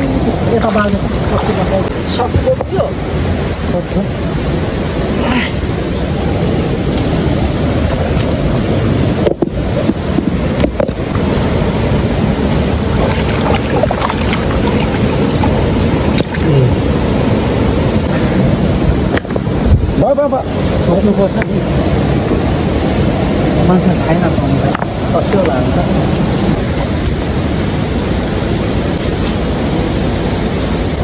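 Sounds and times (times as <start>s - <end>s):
river rushing over boulders: 0.0s - 31.0s.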